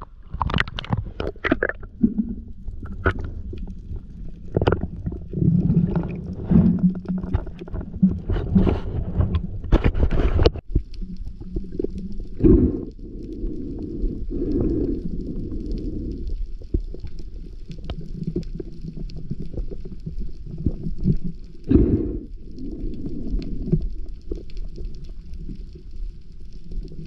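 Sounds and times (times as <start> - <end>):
faint crackling clicks: 0.0 - 27.0
underwater rumble of moving water: 0.0 - 27.0.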